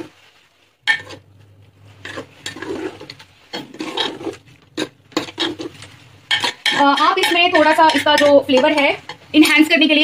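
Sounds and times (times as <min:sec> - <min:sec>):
metal spatula scraping pot: 0:00.8 - 0:10.0.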